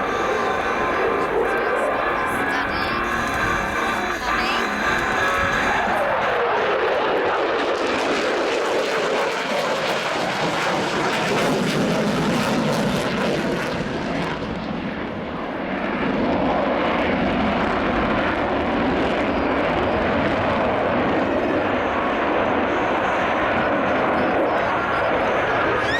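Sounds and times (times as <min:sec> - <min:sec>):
jet engine roar: 0:00.0 - 0:25.9.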